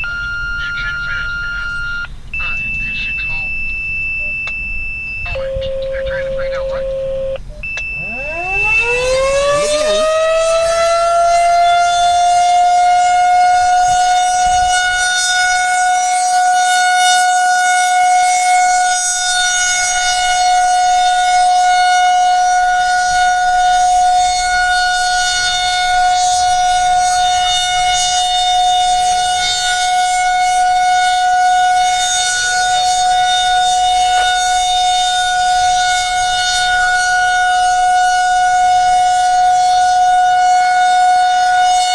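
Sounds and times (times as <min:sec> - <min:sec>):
lower siren tone: 0:00.0 - 0:41.9
warning siren winding up: 0:00.0 - 0:41.9.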